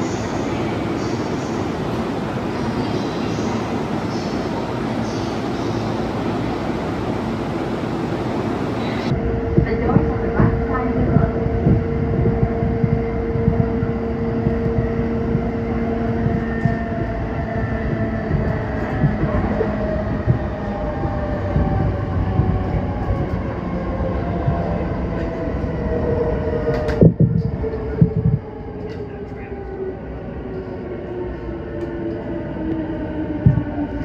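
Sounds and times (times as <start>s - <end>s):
train rumble from inside carriage: 0.0s - 34.0s.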